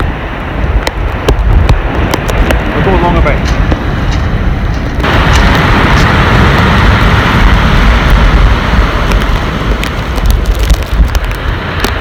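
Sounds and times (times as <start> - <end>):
storm waves on pebble beach: 0.0 - 12.0
wind buffeting microphone: 0.0 - 12.0.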